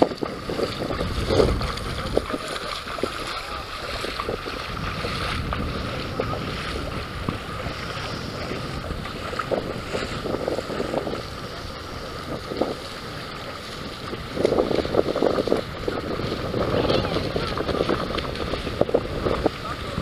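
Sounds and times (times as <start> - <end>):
feet wading through water: 0.0 - 20.0
wind buffeting microphone: 0.0 - 20.0.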